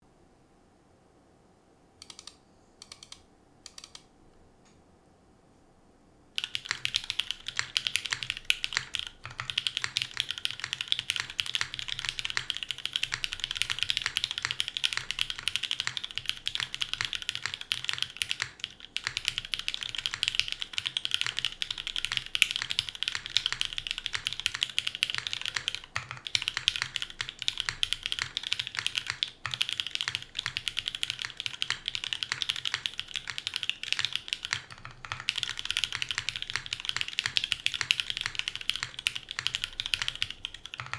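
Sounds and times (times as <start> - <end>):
mechanical keyboard typing: 2.0 - 4.1, 6.4 - 40.9.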